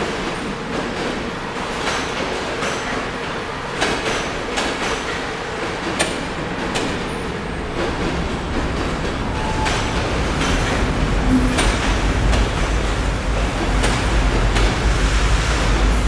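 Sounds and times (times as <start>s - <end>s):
train rumble: 0.0s - 16.0s
wheels clicking over rail joints: 0.2s - 14.9s.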